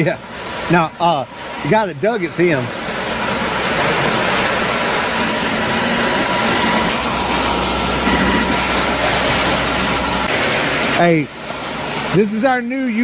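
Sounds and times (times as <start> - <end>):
concrete pump truck droning: 0.0 - 13.0.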